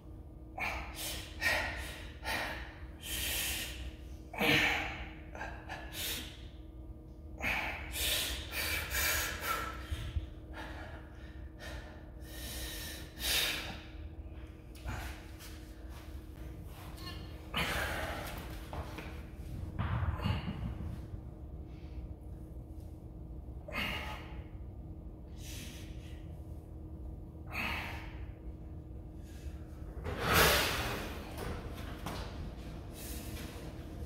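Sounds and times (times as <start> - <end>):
man breathing heavily: 0.4 - 6.6, 7.2 - 22.5, 23.5 - 31.5, 32.1 - 34.0.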